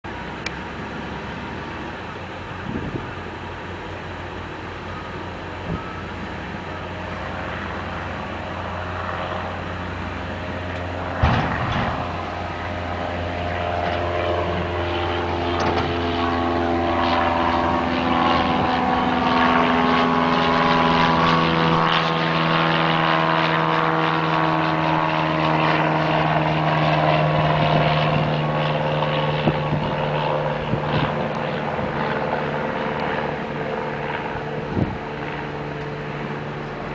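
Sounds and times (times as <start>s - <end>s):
propeller plane flying overhead: 0.0s - 36.9s.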